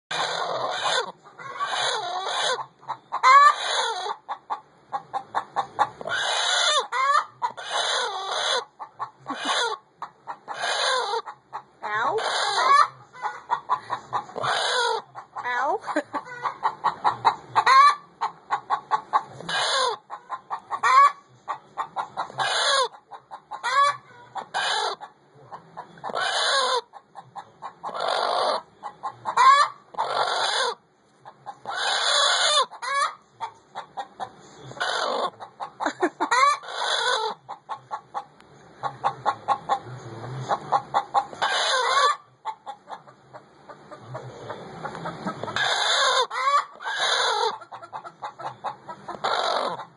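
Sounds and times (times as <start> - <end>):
hen clucking and calling: 0.1 - 49.9.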